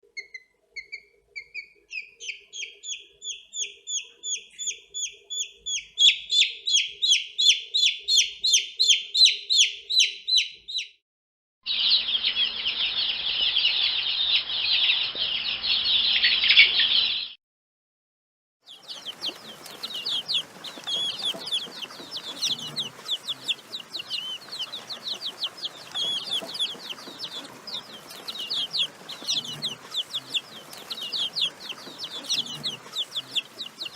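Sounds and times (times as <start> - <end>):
baby chicks peeping: 0.1 - 10.9, 11.7 - 17.4, 18.7 - 33.9.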